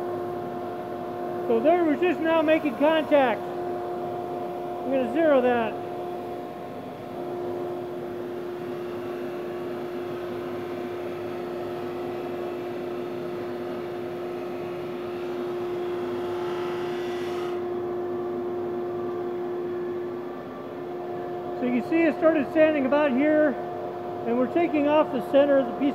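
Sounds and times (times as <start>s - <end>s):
machine hum with held tone: 0.0s - 25.9s.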